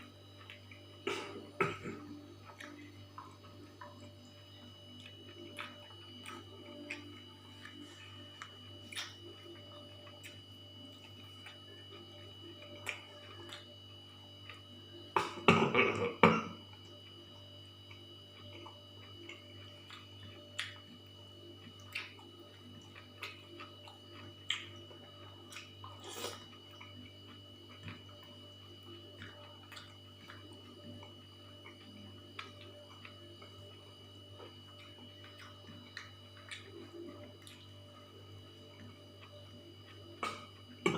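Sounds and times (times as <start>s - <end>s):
faint electrical hum: 0.0s - 40.9s
chewing: 0.3s - 13.8s, 16.8s - 40.9s.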